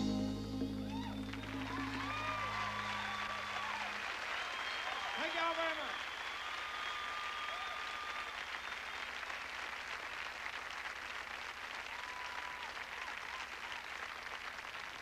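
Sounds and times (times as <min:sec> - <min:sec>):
audience applauding: 0:00.9 - 0:15.0.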